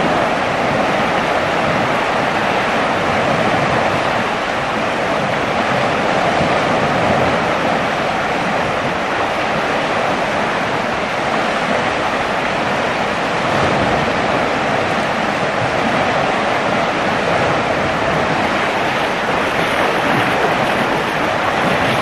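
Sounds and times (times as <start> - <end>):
rushing flooded river: 0.0 - 22.0.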